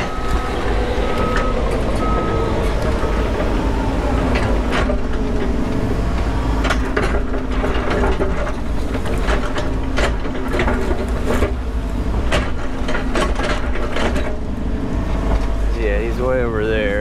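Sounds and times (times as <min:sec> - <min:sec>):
excavator bucket clanks and knocks: 0:00.0 - 0:05.6, 0:06.5 - 0:14.5
diesel engine running: 0:00.0 - 0:17.0.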